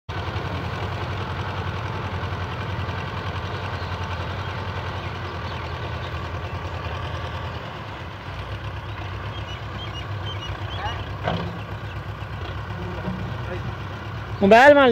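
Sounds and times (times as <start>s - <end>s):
tractor diesel engine running: 0.1s - 14.9s.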